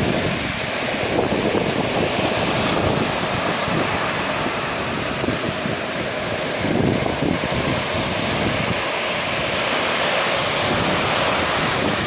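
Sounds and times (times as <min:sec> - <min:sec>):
rough sea surf breaking: 0:00.0 - 0:12.0
wind on microphone: 0:00.0 - 0:12.0.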